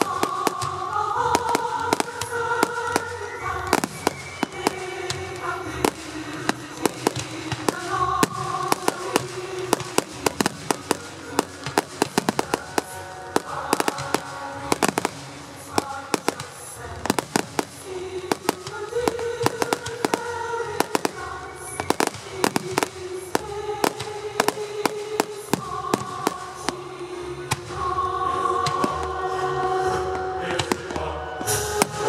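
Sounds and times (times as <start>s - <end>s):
fireworks bangs and cracks: 0.0s - 32.0s
music playing: 0.0s - 32.0s.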